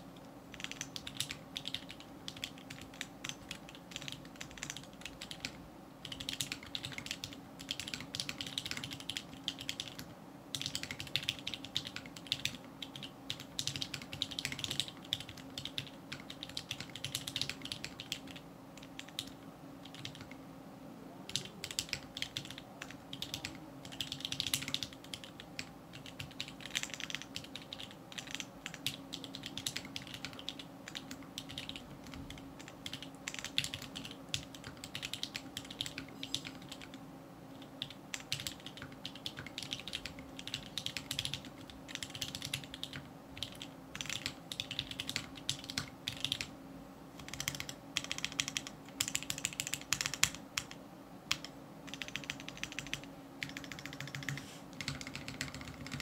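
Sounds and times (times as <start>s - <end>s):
mechanical keyboard typing: 0.5s - 20.4s, 21.3s - 37.0s, 37.6s - 46.5s, 47.2s - 56.0s.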